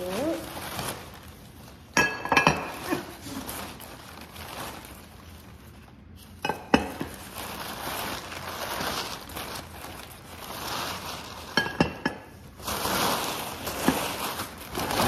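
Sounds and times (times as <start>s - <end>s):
packing paper rustling and crinkling: 0.0s - 11.6s, 12.3s - 15.0s.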